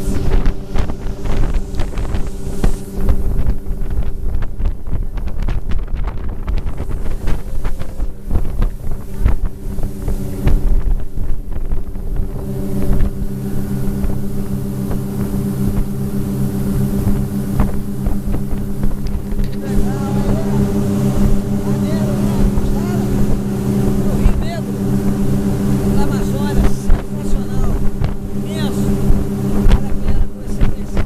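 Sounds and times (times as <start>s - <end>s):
motorboat engine droning: 0.0s - 31.0s
wind buffeting microphone: 0.0s - 31.0s.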